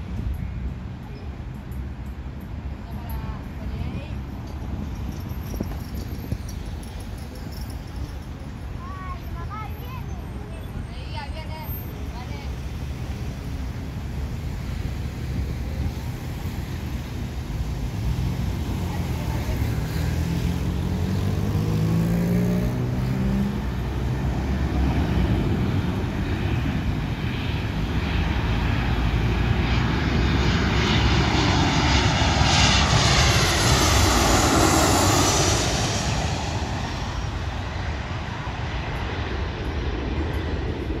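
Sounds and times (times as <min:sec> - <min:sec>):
jet engine whine passing overhead: 0:00.0 - 0:41.0.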